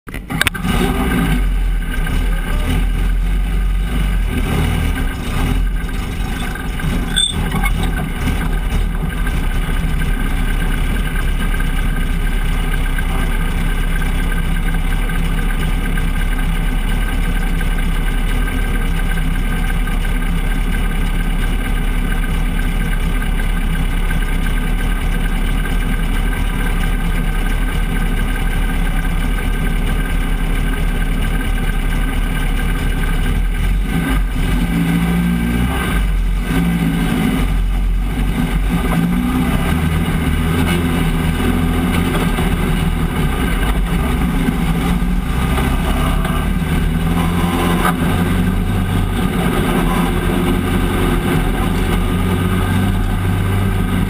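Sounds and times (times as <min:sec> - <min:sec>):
truck engine idling: 0:01.3 - 0:54.0.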